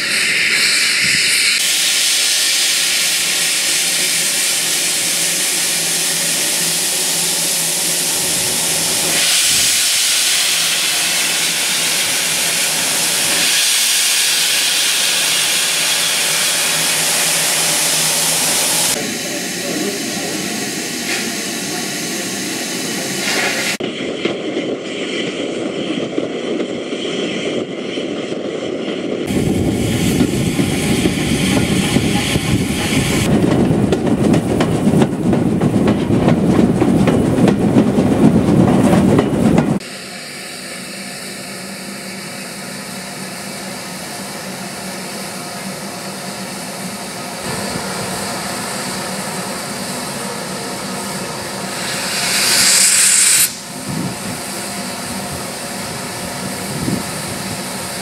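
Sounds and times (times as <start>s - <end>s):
steam locomotive train running: 0.0s - 58.0s.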